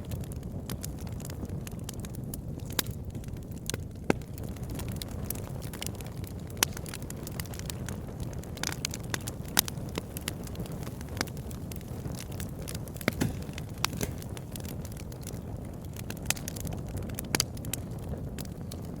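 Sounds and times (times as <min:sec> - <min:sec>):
campfire flames rumbling: 0:00.0 - 0:19.0
wood crackling and popping: 0:00.0 - 0:19.0.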